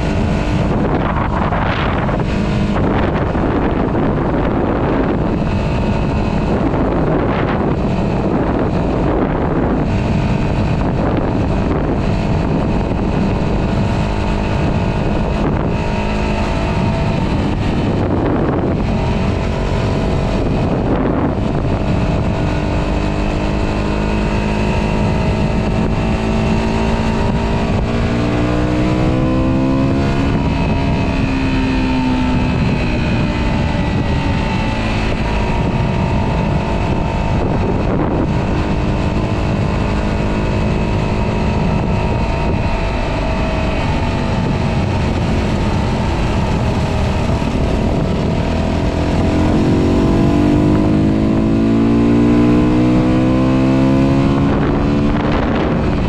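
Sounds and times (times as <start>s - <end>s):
motorcycle engine running: 0.0s - 56.0s
road noise: 0.0s - 56.0s
wind rushing across microphone: 0.0s - 56.0s.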